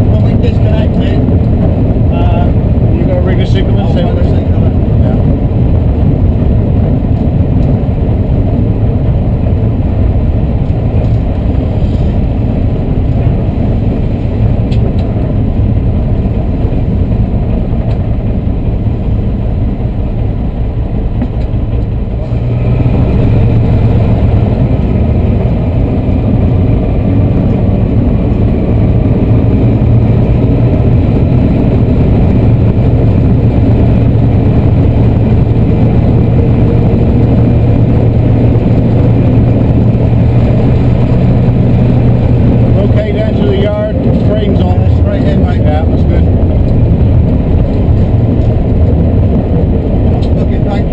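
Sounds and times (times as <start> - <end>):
locomotive diesel engine running: 0.0 - 50.9.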